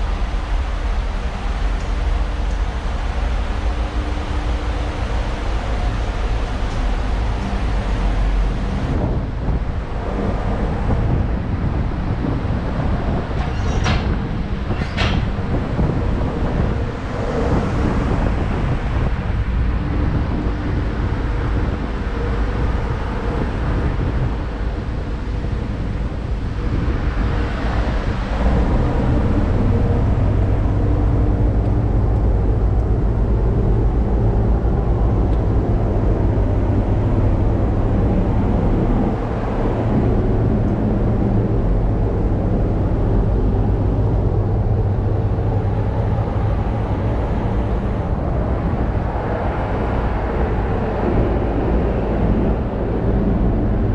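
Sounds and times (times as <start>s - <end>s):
engine-room machinery droning: 0.0s - 53.9s.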